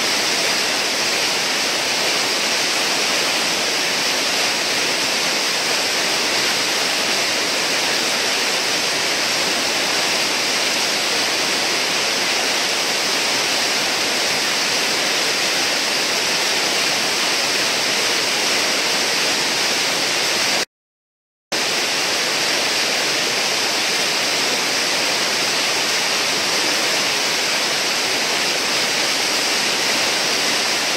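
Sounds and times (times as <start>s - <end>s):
whitewater rushing roar: 0.0s - 20.6s, 21.6s - 30.9s.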